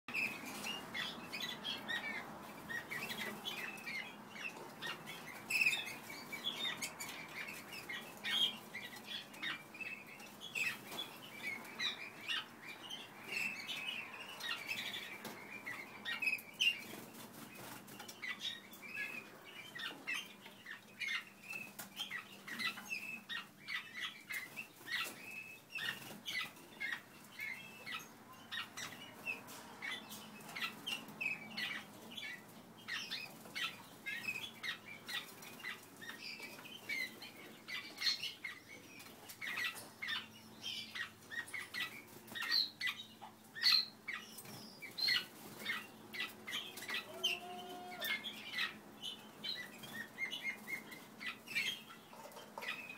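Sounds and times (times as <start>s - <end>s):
canaries singing: 0.0s - 52.9s.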